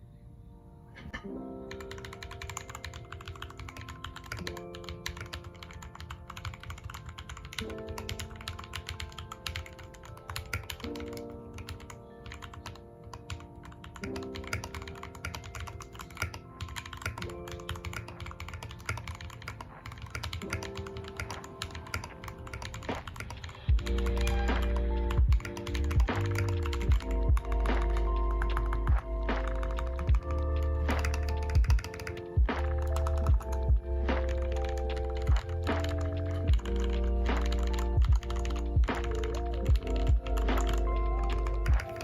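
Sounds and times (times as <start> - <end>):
mechanical keyboard typing: 1.7 - 42.0.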